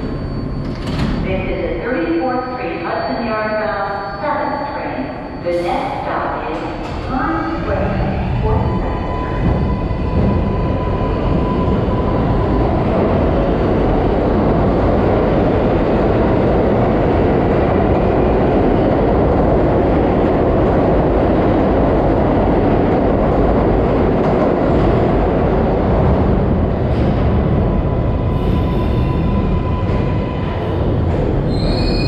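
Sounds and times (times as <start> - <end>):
subway train wheels rumbling: 0.0 - 32.0.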